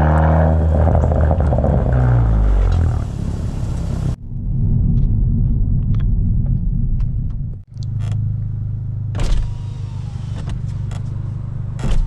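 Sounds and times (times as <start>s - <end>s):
car exhaust rumbling: 0.0s - 12.0s.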